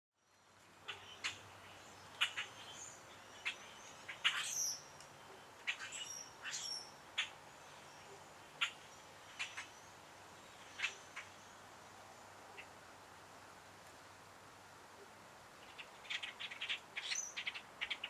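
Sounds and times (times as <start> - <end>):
birds chirping: 0.4 - 12.7, 15.6 - 18.0.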